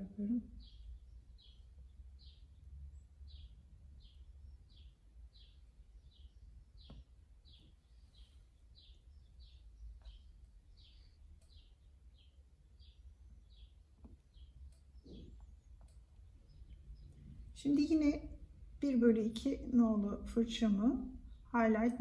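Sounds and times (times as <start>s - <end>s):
small bird chirping: 0.0s - 22.0s.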